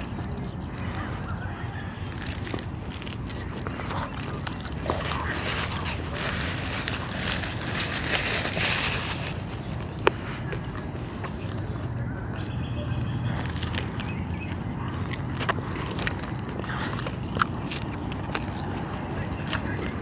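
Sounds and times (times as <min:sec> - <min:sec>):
low background rumble: 0:00.0 - 0:20.0
mouth clicks: 0:00.0 - 0:20.0
person chewing food: 0:00.0 - 0:20.0.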